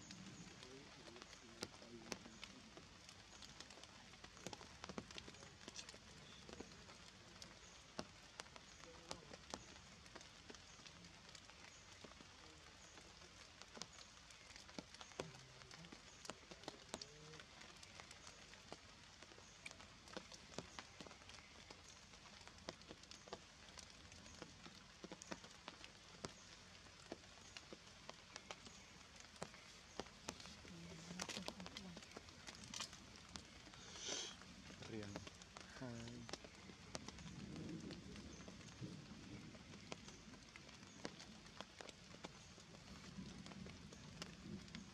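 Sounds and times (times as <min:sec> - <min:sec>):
raindrops pattering on leaves: 0:00.0 - 0:44.9
soft steady hiss: 0:00.0 - 0:44.9.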